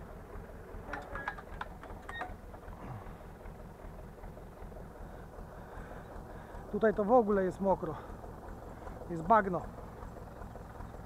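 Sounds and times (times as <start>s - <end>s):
tractor engine throbbing: 0.0s - 11.0s.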